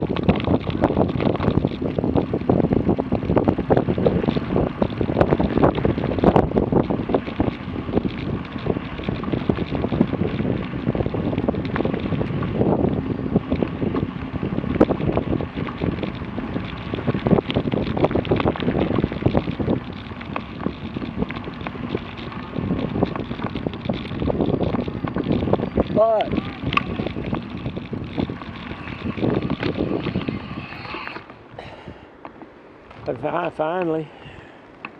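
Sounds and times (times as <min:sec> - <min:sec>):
continuous rumble: 0:00.0 - 0:34.9
tyres crackling on gravel: 0:00.0 - 0:34.9
wind buffeting microphone: 0:00.0 - 0:34.9.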